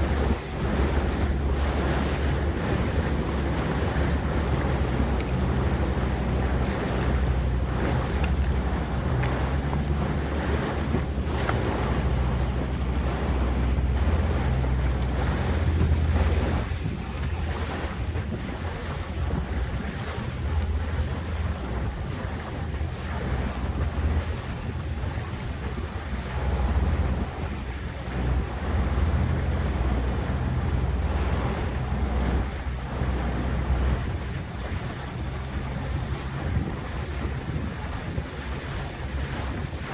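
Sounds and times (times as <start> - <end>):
motorboat engine humming: 0.0 - 39.9
water rushing past hull: 0.0 - 39.9
wind buffeting microphone: 0.0 - 39.9.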